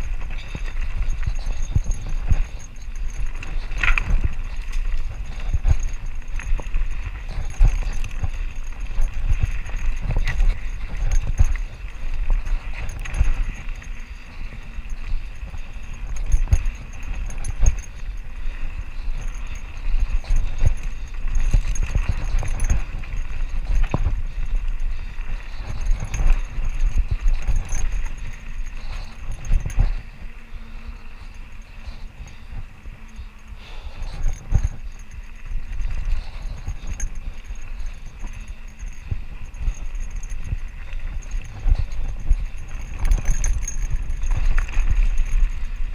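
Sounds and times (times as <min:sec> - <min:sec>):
bike rattling over rocky trail: 0:00.0 - 0:45.9.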